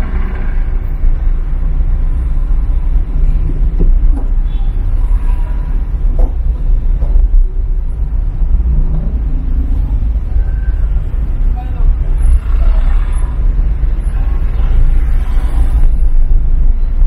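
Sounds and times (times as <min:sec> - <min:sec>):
car driving in traffic: 0:00.0 - 0:17.0
faint surrounding traffic: 0:00.0 - 0:17.0.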